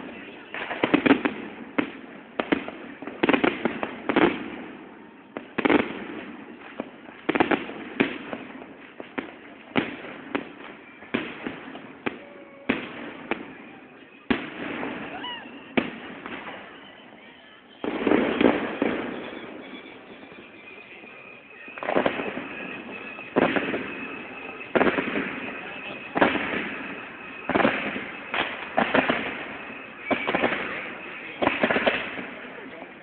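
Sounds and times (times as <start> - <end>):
fireworks bangs with echo: 0.0 - 33.0.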